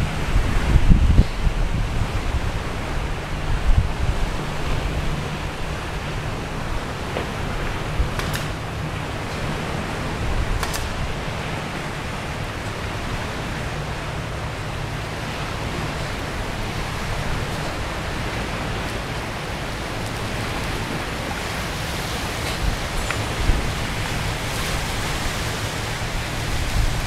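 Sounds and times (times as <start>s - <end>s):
wind noise on microphone: 0.0s - 27.0s.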